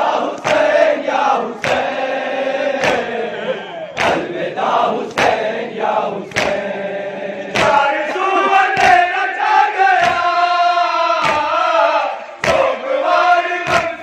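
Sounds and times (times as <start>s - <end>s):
men chanting in unison: 0.0s - 14.0s
sharp rhythmic beat: 0.3s - 14.0s.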